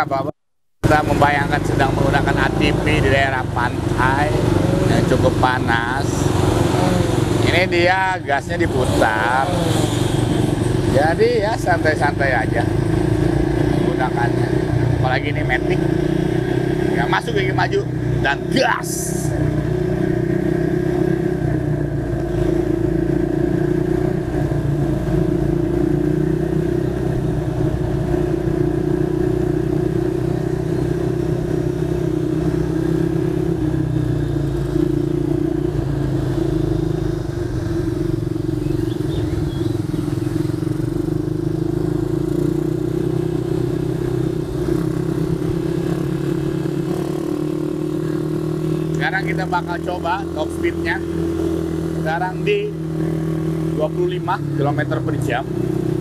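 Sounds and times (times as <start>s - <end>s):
small motorcycle engines: 0.1s - 56.0s
atv engine running: 0.8s - 56.0s.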